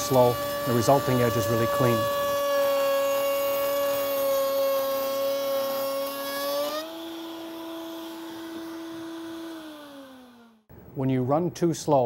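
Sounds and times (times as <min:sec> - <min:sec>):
router cutting wood: 0:00.0 - 0:10.7
router motor running free: 0:00.0 - 0:10.7.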